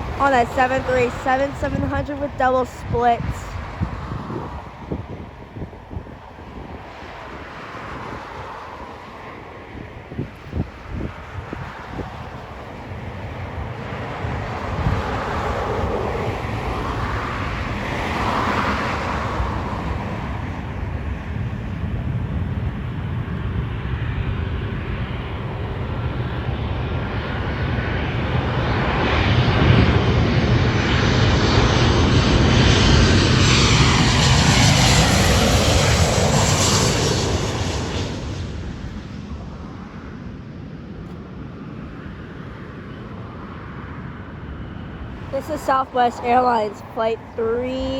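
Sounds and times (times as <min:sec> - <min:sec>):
jet engine whine falling in pitch: 0:00.0 - 0:47.9
jet engines rushing: 0:00.0 - 0:47.9.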